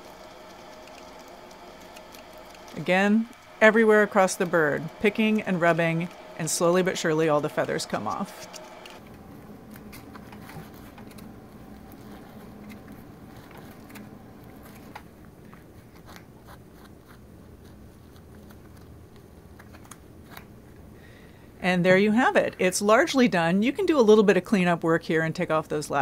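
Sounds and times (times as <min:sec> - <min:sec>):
gloves rubbing feathers: 0:00.0 - 0:20.9
low steady hum: 0:00.0 - 0:26.0.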